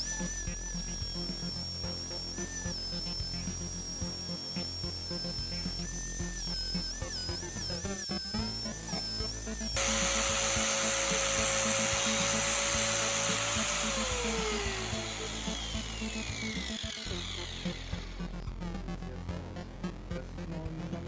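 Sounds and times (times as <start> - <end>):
electric power tool whining: 0.0 - 18.2.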